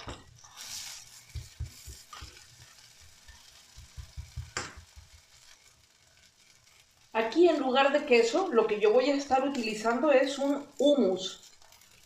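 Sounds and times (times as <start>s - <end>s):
patty sizzling faintly in oil: 0.0s - 12.0s.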